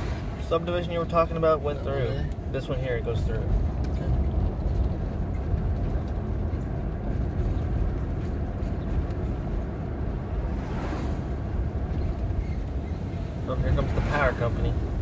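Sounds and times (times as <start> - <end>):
road noise: 0.0 - 15.0
vehicle engine rumble: 0.0 - 15.0.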